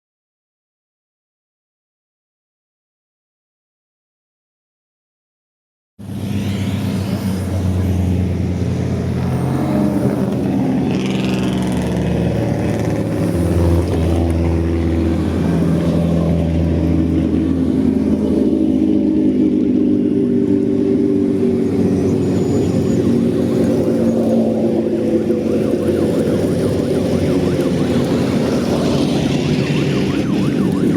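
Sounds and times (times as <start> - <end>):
racing car engine: 6.0 - 30.9.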